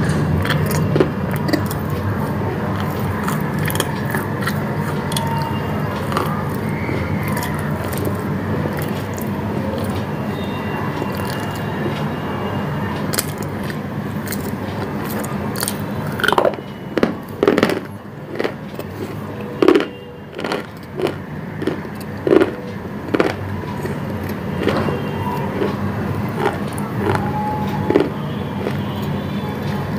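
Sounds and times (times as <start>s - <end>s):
steady background hum: 0.0s - 29.9s
person crunching food: 0.4s - 10.0s, 11.0s - 11.7s, 13.1s - 28.9s.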